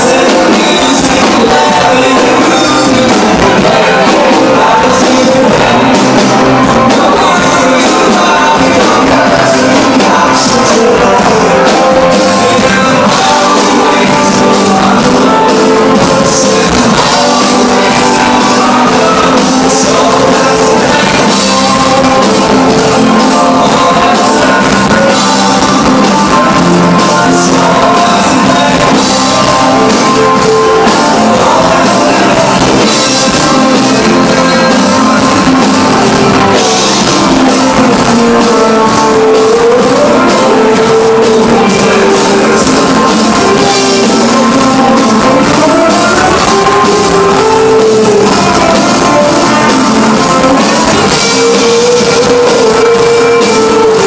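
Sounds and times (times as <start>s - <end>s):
drum kit beat: 0.0s - 54.0s
electric guitars: 0.0s - 54.0s
person singing into microphone: 0.0s - 54.0s.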